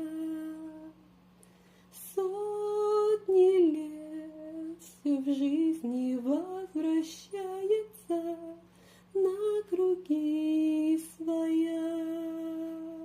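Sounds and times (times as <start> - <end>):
woman singing: 0.0 - 1.0, 1.9 - 13.0.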